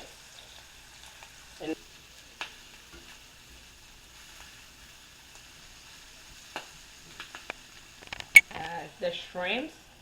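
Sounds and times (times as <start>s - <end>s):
shrimp sizzling in oil: 0.0s - 10.0s.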